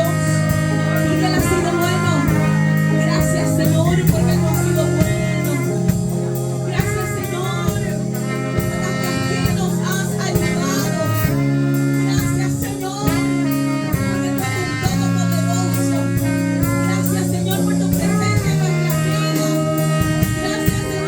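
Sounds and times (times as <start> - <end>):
live worship band music: 0.0 - 21.0.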